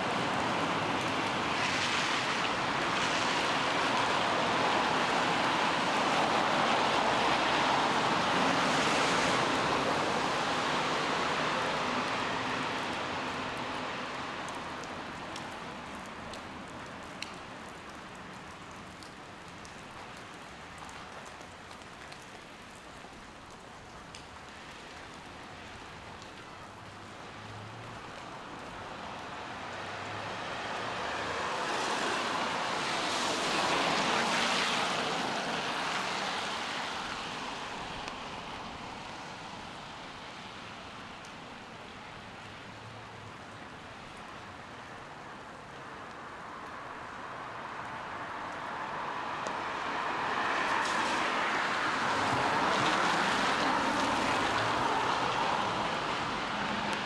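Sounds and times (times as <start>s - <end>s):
rain falling: 0.0s - 57.0s
traffic hissing on wet street: 0.0s - 57.0s.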